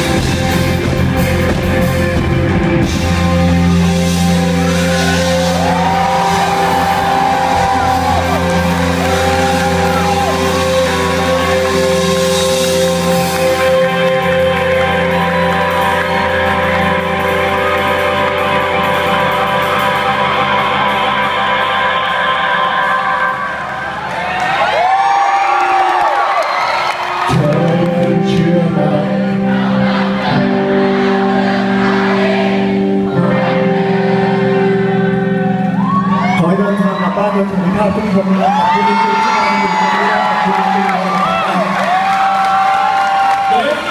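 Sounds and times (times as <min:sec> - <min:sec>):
rock band with electric guitar: 0:00.0 - 0:43.9.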